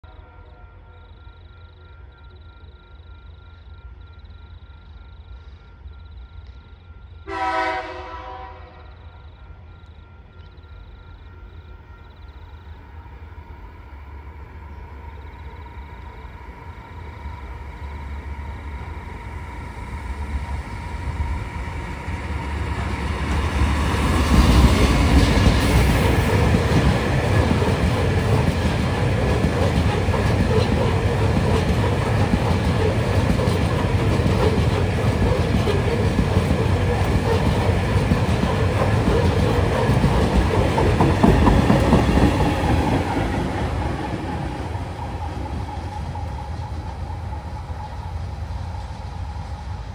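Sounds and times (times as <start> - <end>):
train wagons rumbling and clattering: 2.0 - 49.9.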